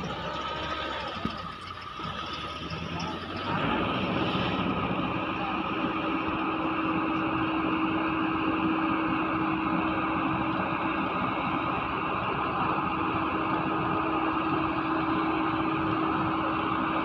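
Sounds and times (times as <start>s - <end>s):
constant humming tone: 0.0s - 17.0s
excavator diesel engine running: 0.0s - 17.0s.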